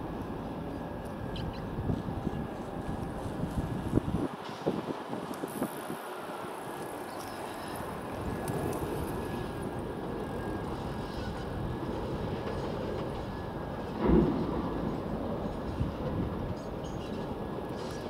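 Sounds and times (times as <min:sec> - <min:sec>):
distant train rumbling: 0:00.0 - 0:18.0.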